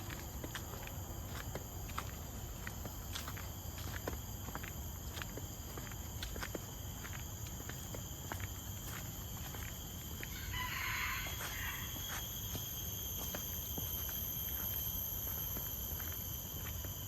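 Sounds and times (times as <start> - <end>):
faint footsteps on a trail: 0.0 - 17.0
high-pitched insect drone: 0.0 - 17.0.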